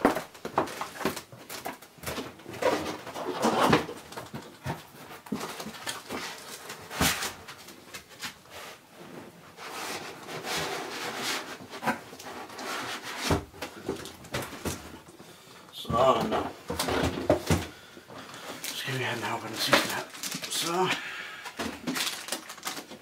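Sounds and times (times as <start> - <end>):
cardboard packaging rustling: 0.0 - 15.2, 15.9 - 23.0.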